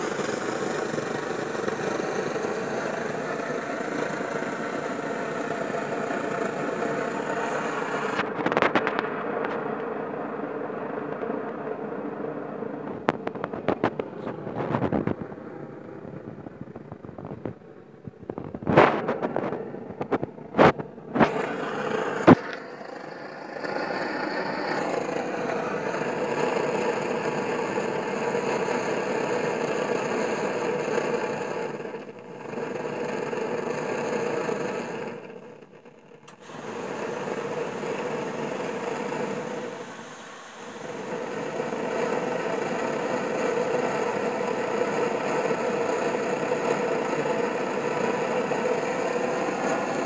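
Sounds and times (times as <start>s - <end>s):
blowlamp flame roaring: 0.0s - 50.0s.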